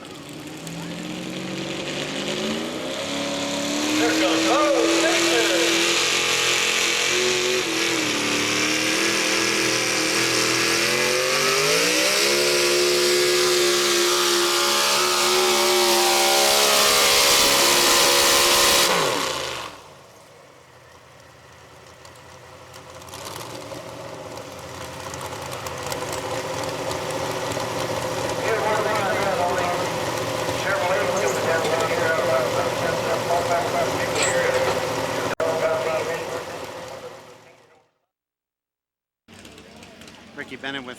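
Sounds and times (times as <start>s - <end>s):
truck engine at full throttle: 0.0s - 37.8s, 39.3s - 40.9s.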